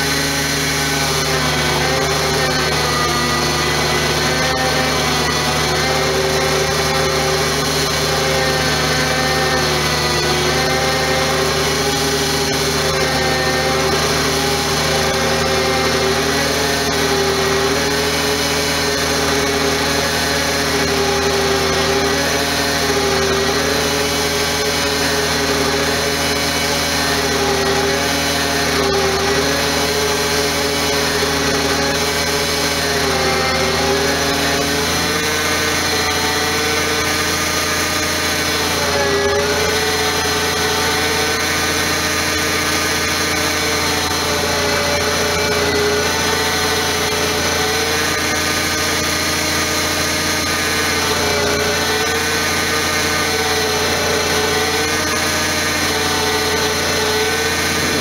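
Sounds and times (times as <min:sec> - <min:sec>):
truck engine and winch whining: 0:00.0 - 0:58.0.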